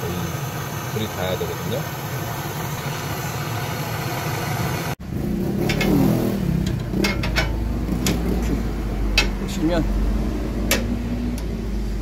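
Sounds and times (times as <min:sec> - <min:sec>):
gas torch roaring: 0:00.0 - 0:12.0.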